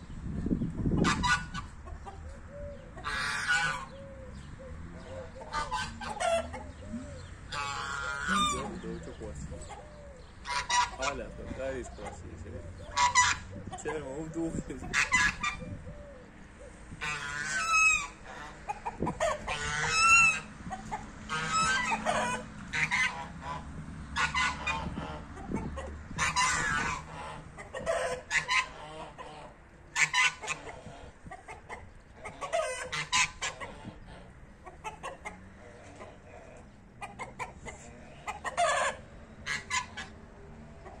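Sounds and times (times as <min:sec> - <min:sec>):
chickens clucking: 0:00.3 - 0:41.0.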